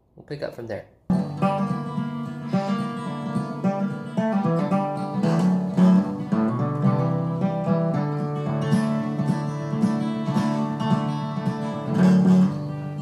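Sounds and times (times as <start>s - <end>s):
acoustic guitar music: 1.1s - 13.0s.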